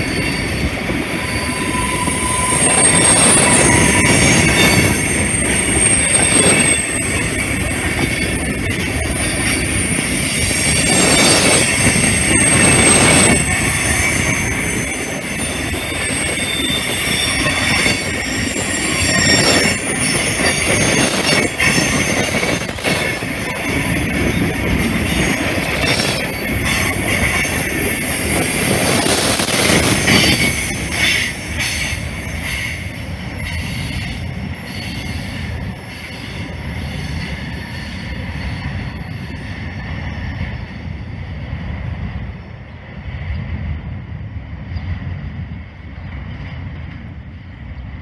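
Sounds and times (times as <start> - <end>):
wheel flange squeal: 0.0 - 40.7
train wheels rumbling on rail: 0.0 - 48.0.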